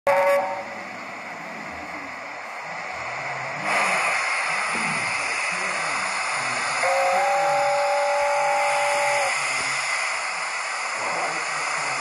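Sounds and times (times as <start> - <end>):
steady hiss: 0.3 - 12.0.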